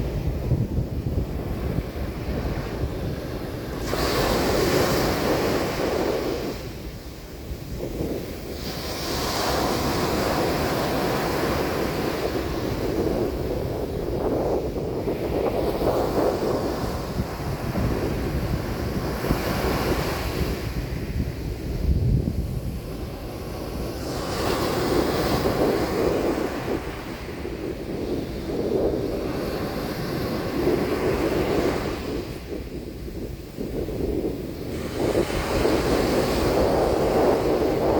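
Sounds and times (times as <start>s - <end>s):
waves breaking on a beach: 0.0s - 37.9s
wind rumble on microphone: 0.0s - 37.9s.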